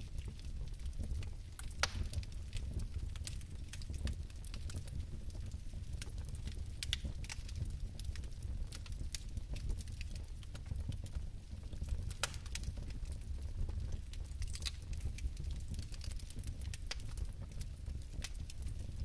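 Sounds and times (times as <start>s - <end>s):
fire crackles and pops: 0.0s - 19.0s
fireplace flames rumbling: 0.0s - 19.0s.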